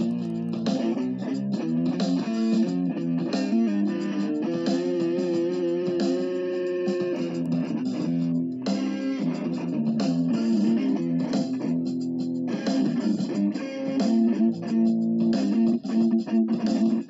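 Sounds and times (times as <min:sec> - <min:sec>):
bass line: 0:00.0 - 0:06.2, 0:06.9 - 0:16.8
guitar background music: 0:00.0 - 0:17.0.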